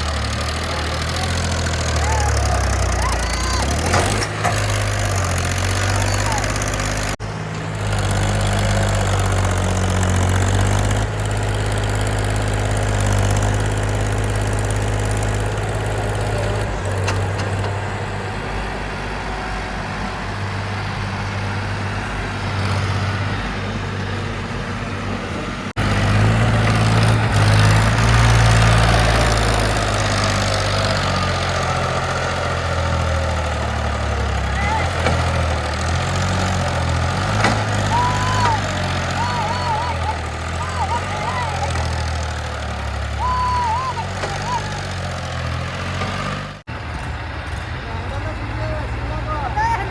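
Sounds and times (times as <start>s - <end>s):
diesel engines working: 0.0s - 49.9s.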